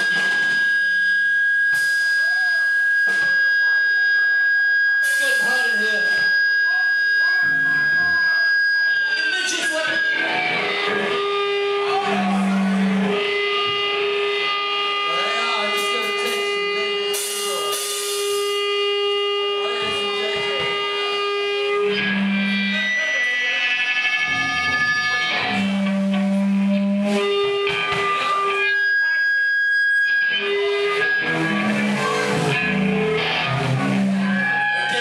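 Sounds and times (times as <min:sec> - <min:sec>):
distorted electric guitar: 0:00.0 - 0:35.0
high held tone: 0:00.0 - 0:35.0
bass guitar notes: 0:05.0 - 0:08.6, 0:09.7 - 0:35.0.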